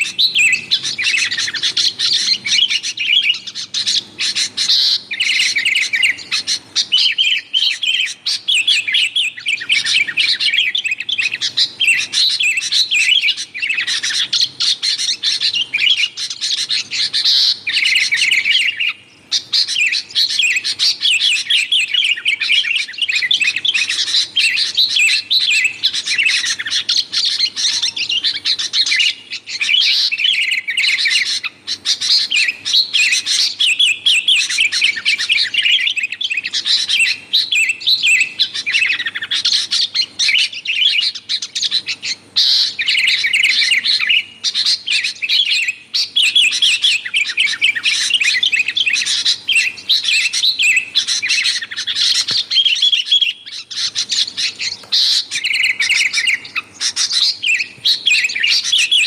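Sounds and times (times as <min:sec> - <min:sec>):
birds chattering: 0:00.0 - 0:59.0.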